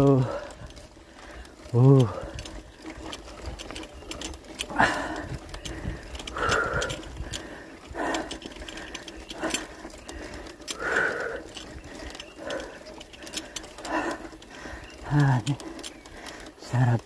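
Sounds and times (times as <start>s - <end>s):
heavy breathing: 0.0s - 16.7s
bicycle rattling on gravel: 0.0s - 17.0s.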